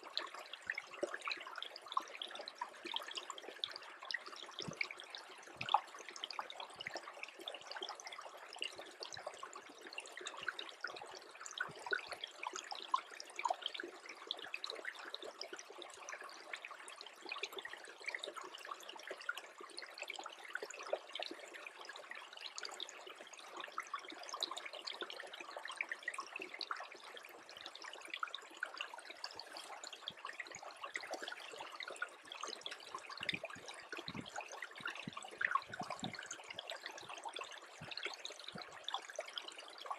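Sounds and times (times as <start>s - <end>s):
stream trickling with plinks: 0.0s - 39.9s.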